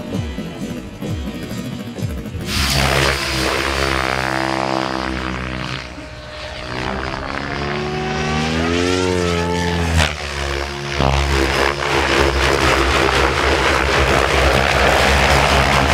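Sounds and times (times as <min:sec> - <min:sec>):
rc helicopter rotors whining: 0:00.0 - 0:15.9.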